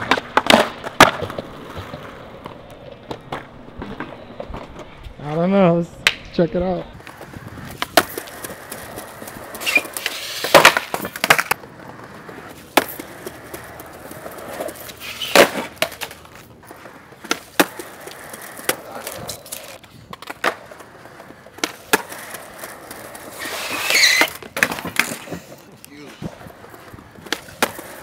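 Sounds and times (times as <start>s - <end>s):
skateboard clacking down: 0.0s - 5.4s, 6.0s - 28.0s
skateboard wheels rolling and scraping: 0.0s - 28.0s.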